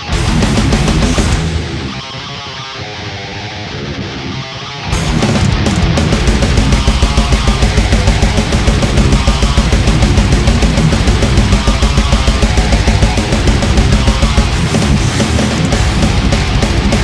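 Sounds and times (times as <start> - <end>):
heavy metal music: 0.0 - 17.0.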